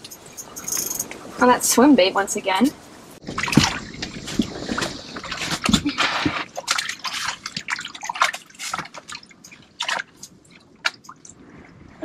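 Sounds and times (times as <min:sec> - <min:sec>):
water splashing and dripping: 0:00.0 - 0:01.5, 0:02.5 - 0:11.9.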